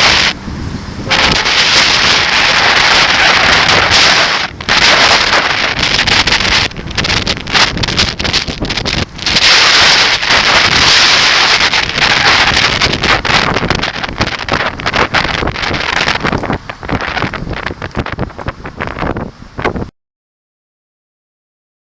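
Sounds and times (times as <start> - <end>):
wind roaring on microphone: 0.0 - 19.9.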